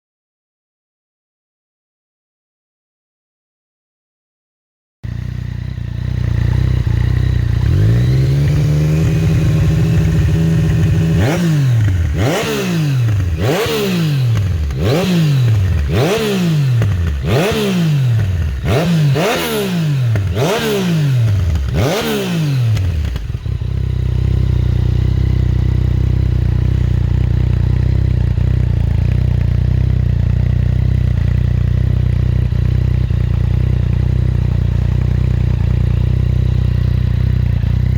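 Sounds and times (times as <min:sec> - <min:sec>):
motorcycle engine revving: 0:05.0 - 0:37.9.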